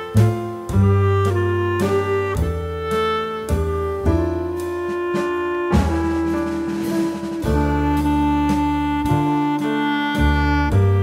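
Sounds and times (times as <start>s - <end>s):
instrumental music with held notes: 0.0s - 11.0s.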